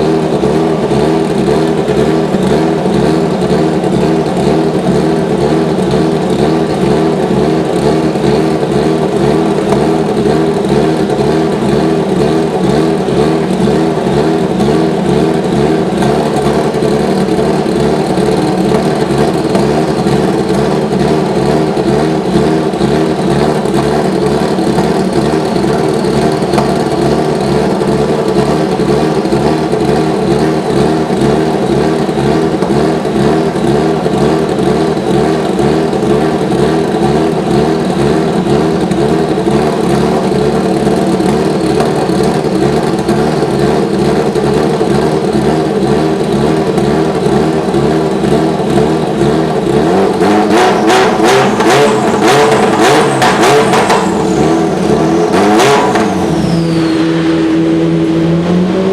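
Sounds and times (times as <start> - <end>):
race car engine running: 0.0 - 58.9.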